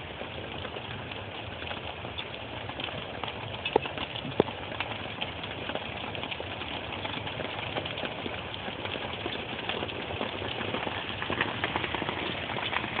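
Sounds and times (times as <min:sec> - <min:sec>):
hail falling: 0:00.0 - 0:13.0.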